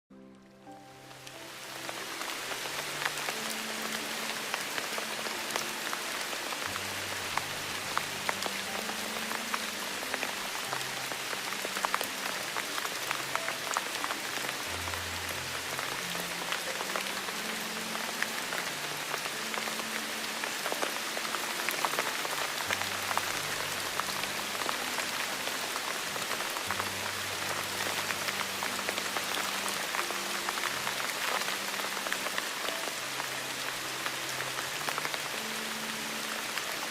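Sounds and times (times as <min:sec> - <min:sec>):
steady rain drops: 0:00.2 - 0:36.9.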